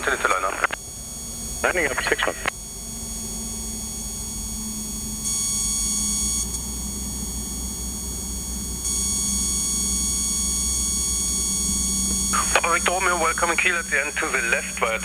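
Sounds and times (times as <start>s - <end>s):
intercom electrical whine and hum: 0.0s - 15.0s.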